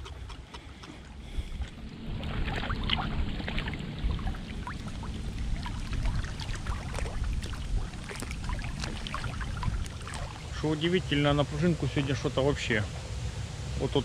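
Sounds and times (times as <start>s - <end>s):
river water splashing at bank: 0.0s - 14.0s
low rumble: 1.0s - 14.0s.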